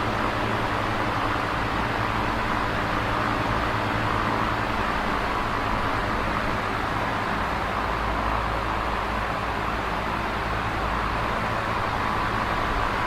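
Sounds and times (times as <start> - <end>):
box fan whooshing air: 0.0 - 13.0.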